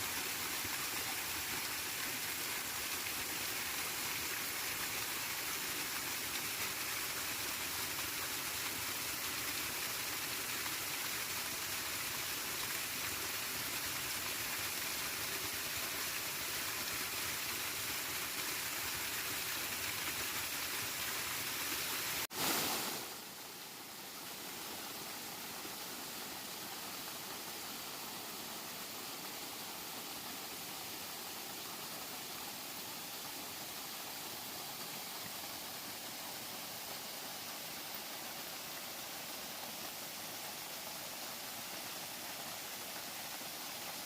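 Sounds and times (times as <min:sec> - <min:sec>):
steady water noise: 0:00.0 - 0:44.0.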